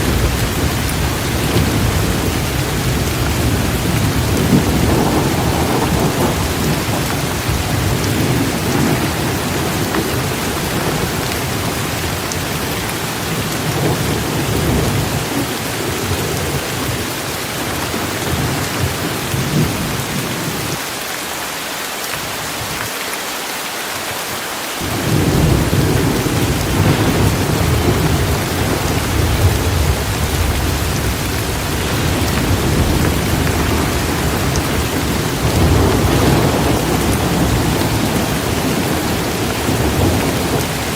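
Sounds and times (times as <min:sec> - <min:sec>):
thunder rumble: 0:00.0 - 0:20.8, 0:24.8 - 0:40.9
rain hissing: 0:00.0 - 0:40.9.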